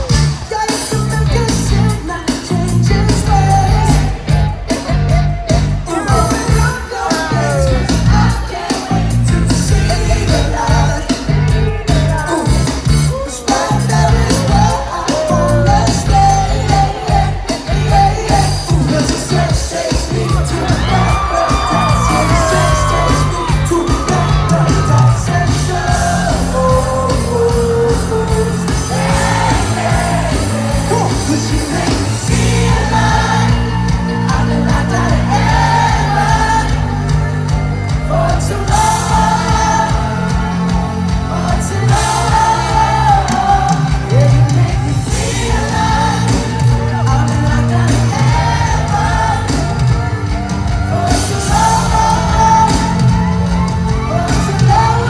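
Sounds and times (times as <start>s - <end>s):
live band with singing: 0.0s - 55.0s
crowd shouting: 3.9s - 12.0s, 13.0s - 55.0s.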